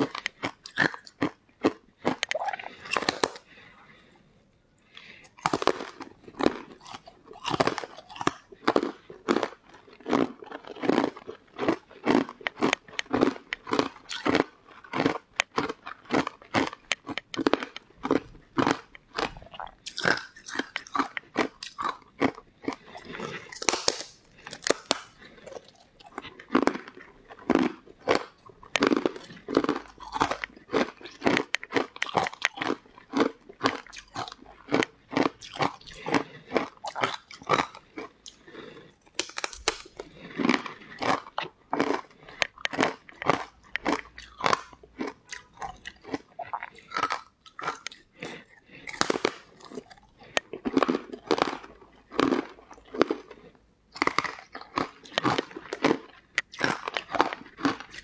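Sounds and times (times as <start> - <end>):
crunchy chewing: 0.0 - 4.2, 4.9 - 58.0.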